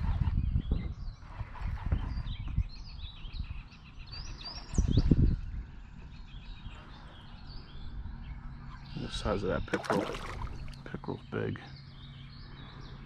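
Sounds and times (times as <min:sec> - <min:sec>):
low wind rumble: 0:00.0 - 0:13.0
songbirds chirping: 0:00.0 - 0:13.0.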